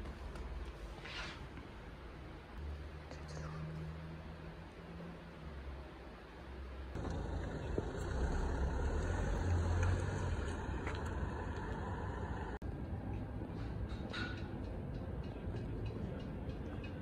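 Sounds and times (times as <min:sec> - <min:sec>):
vehicle engine rumbling: 0:02.4 - 0:17.0.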